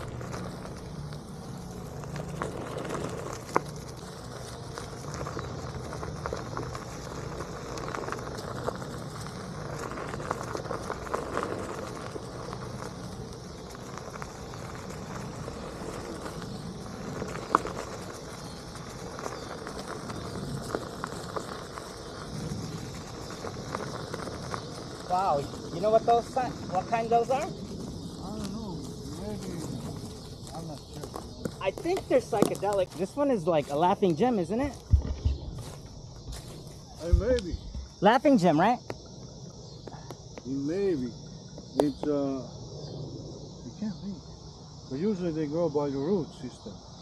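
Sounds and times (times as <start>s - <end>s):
crackles from the ground: 0.0s - 47.0s
electric board rolling with hum: 0.0s - 47.0s.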